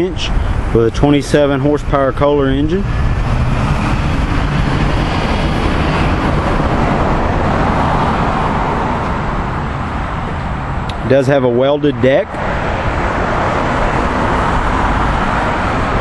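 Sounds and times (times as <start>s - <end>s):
road traffic rushing: 0.0s - 16.0s
vehicle passing: 0.0s - 16.0s.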